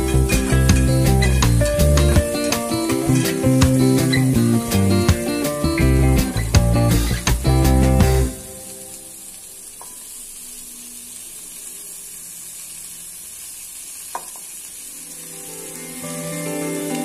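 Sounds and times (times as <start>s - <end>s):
soft background music: 0.0s - 12.2s, 14.8s - 17.0s
vegetables sizzling in oil: 0.0s - 17.0s.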